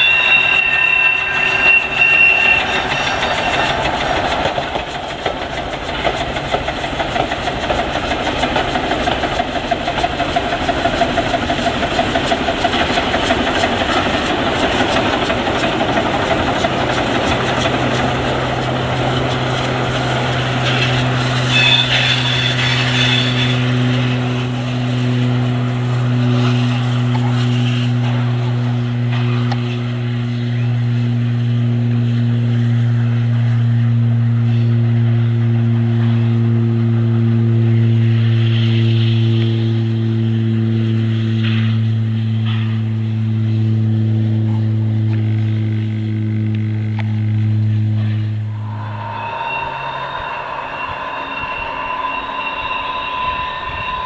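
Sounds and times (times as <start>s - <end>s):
high held tone: 0.0s - 5.5s, 10.3s - 31.8s, 35.2s - 54.0s
low motor hum: 0.0s - 54.0s
steam train rolling past: 0.0s - 54.0s.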